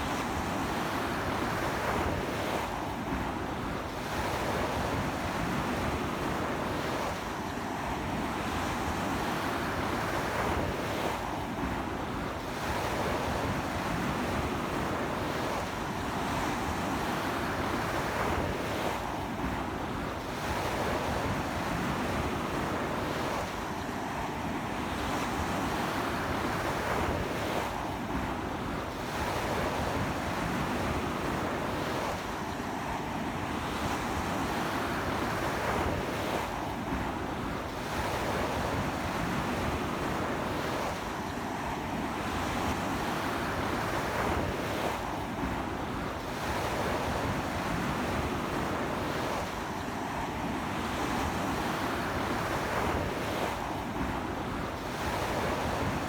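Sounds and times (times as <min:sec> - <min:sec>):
surf breaking on a beach: 0:09.0 - 0:56.0.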